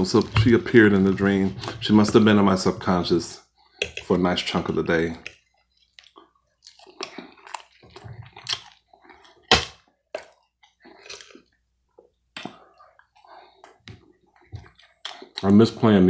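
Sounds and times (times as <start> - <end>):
person chewing food: 0.0 - 15.8.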